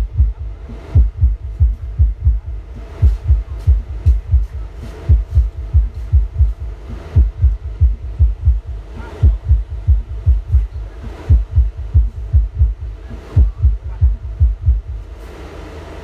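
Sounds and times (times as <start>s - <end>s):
bass-heavy beat over loudspeakers: 0.0s - 16.0s.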